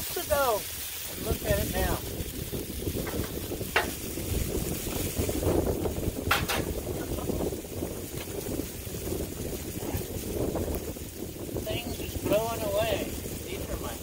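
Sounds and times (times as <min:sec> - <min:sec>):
meat sizzling on griddle: 0:00.0 - 0:14.0
wind buffeting microphone: 0:00.0 - 0:14.0.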